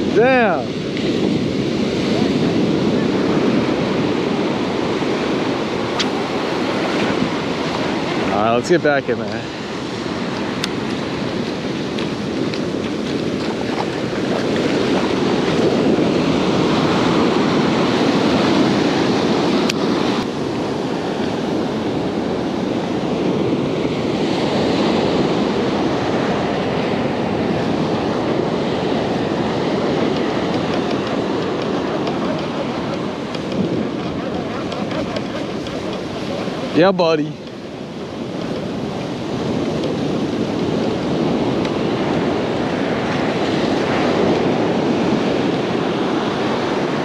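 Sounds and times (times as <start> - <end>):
ocean surf breaking on beach: 0.0 - 47.0
wind on microphone: 0.0 - 47.0.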